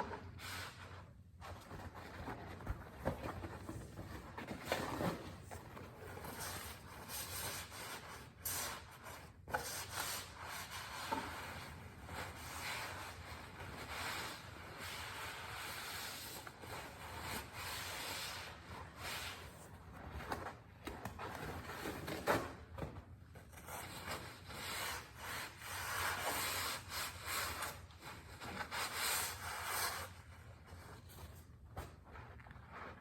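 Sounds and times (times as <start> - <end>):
rubbing and wiping on a surface: 0.0 - 20.6, 23.5 - 33.0.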